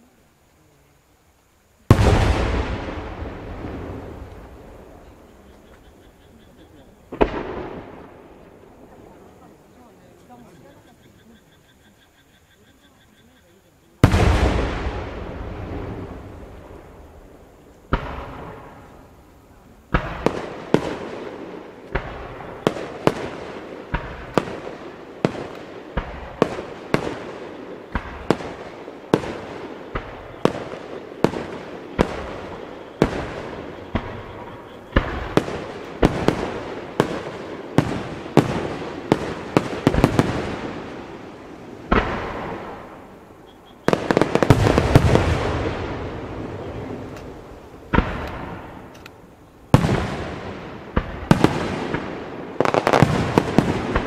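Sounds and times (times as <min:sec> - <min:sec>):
firework crackling: 0:01.7 - 0:10.4, 0:14.0 - 0:54.0
firework bangs: 0:01.8 - 0:09.4, 0:14.0 - 0:54.0.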